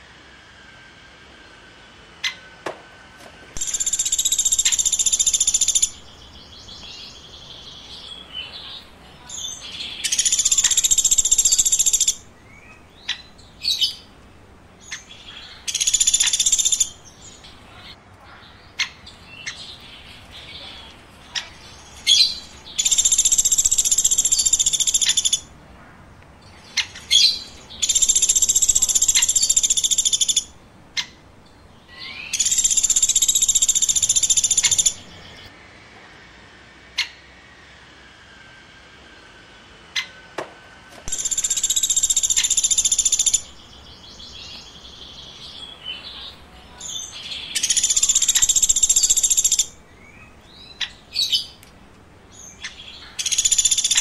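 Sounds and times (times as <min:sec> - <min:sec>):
woodpecker calling: 0:03.6 - 0:35.5, 0:41.1 - 0:54.0.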